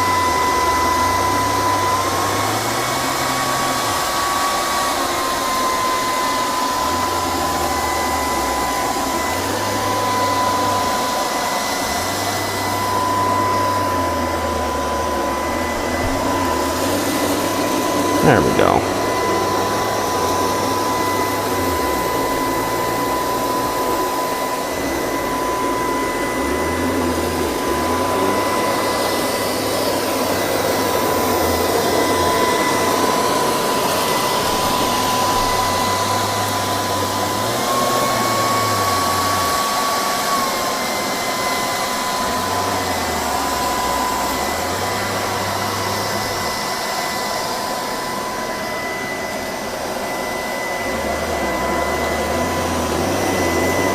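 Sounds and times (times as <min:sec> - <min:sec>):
robot vacuum whining: 0:00.0 - 0:53.9.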